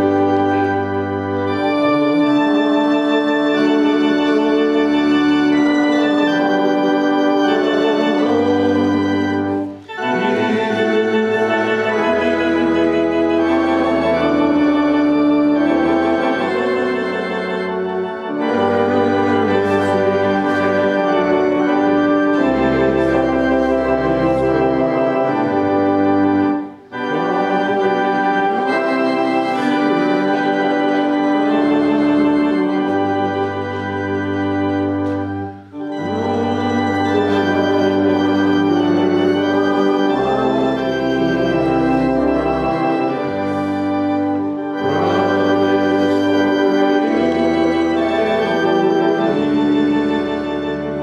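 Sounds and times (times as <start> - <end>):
church organ chords: 0.0 - 51.0.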